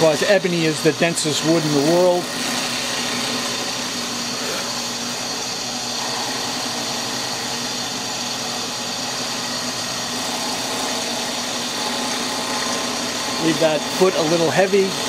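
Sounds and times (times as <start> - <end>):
drill press whirring: 0.0 - 15.0.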